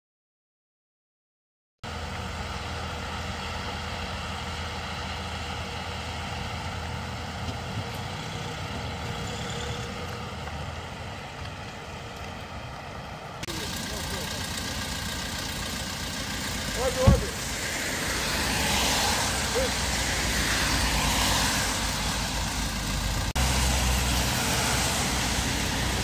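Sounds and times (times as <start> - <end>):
vehicle engine idling: 1.8 - 26.0.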